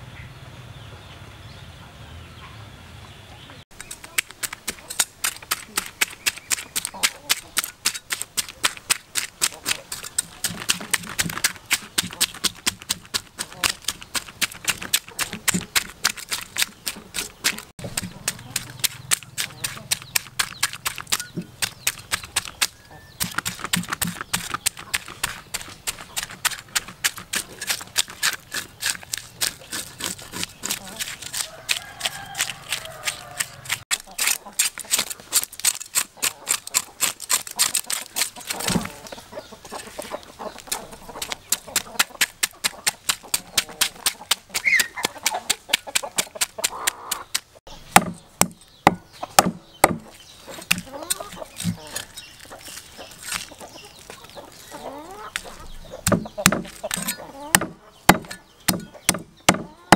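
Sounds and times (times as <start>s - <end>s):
cleaver scraping fish scales: 3.7s - 59.3s
cleaver chopping into wooden block: 3.8s - 39.0s, 40.7s - 53.5s, 55.4s - 59.7s.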